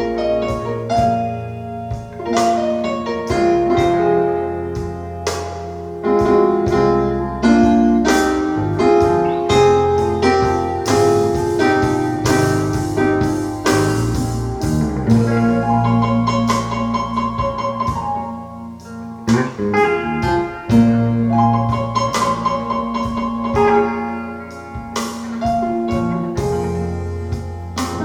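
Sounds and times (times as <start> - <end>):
piano solo: 0.0 - 28.0
steady bass line: 0.0 - 28.0.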